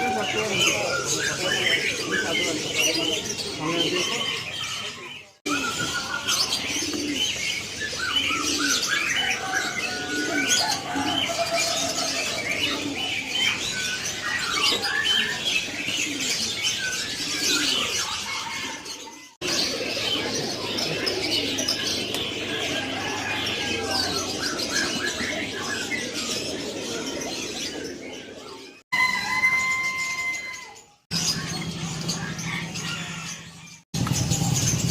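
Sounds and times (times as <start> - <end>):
caged birds chirping: 0.0 - 34.9.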